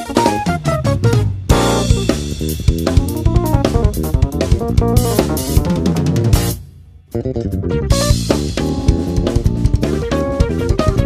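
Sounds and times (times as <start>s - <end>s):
drum kit: 0.0s - 11.0s
electric bass guitar: 0.0s - 11.0s.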